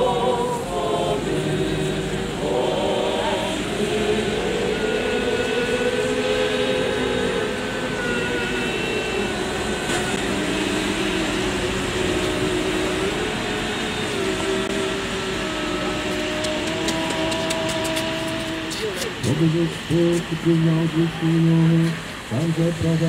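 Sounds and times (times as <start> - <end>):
church choir chanting: 0.0 - 18.7
outdoor noise: 0.0 - 23.0.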